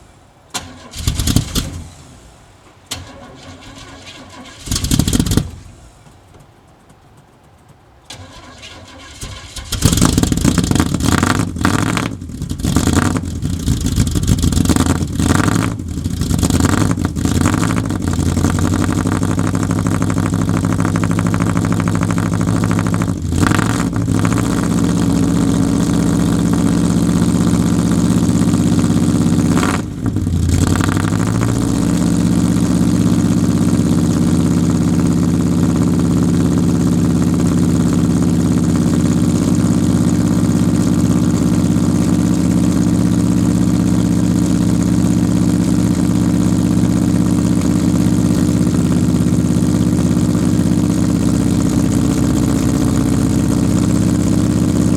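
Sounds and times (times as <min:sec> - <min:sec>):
car engine cold start idling: 0:00.0 - 0:06.3, 0:08.1 - 0:54.9.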